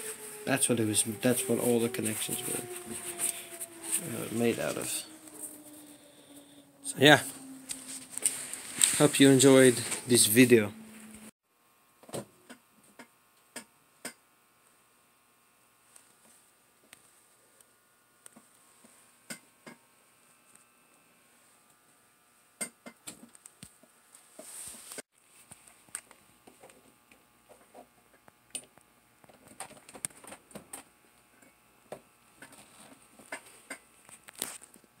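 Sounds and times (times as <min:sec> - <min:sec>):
fluorescent light hum: 0:00.0 - 0:35.0.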